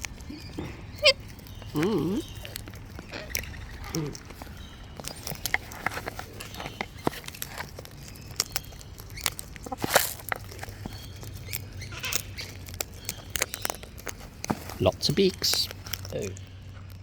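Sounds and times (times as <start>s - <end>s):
parrots cracking seed: 0.0s - 17.0s.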